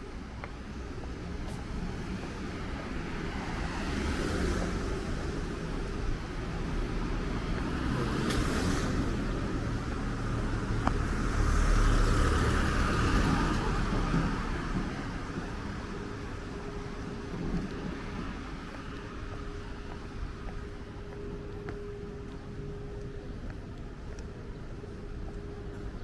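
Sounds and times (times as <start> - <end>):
cars passing: 0.0 - 26.0
low road rumble: 0.0 - 26.0.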